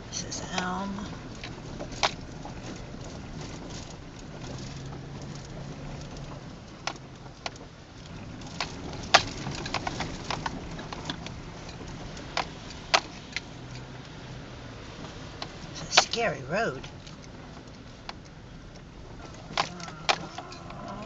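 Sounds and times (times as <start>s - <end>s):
car rumbling from inside cabin: 0.0s - 21.0s.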